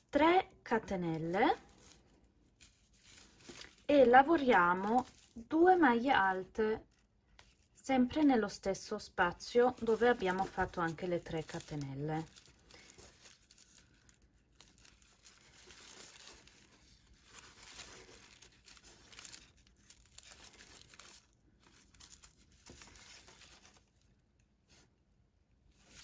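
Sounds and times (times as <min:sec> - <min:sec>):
faint crinkling and rustling of yarn: 0:00.0 - 0:26.0.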